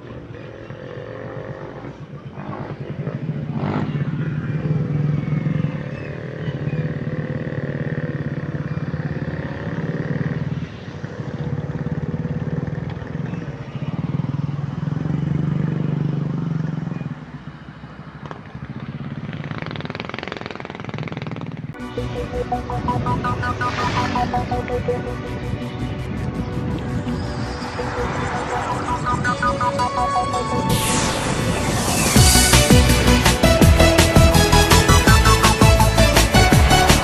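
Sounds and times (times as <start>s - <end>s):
road noise: 0.0s - 37.0s
vehicle engine running: 0.0s - 37.0s.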